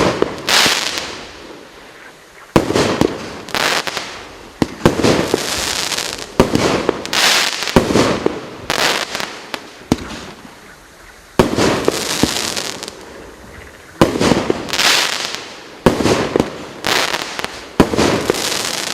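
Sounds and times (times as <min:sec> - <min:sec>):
firework cake bangs with crackling: 0:00.0 - 0:01.2, 0:02.5 - 0:10.4, 0:11.4 - 0:12.9, 0:14.0 - 0:18.9.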